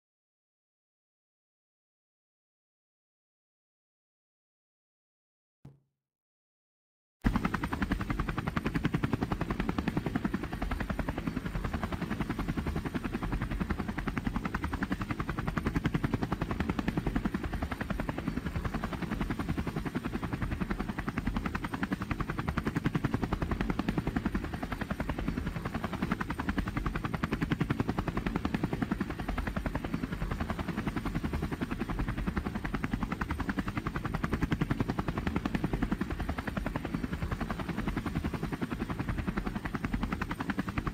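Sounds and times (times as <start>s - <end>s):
helicopter engine noise: 7.2s - 40.9s
helicopter rotor chop: 7.2s - 40.9s.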